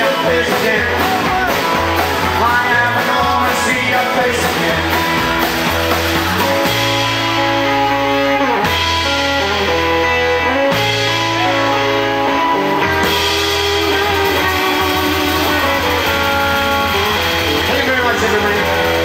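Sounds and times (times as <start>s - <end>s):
rockabilly band playing: 0.0s - 19.0s.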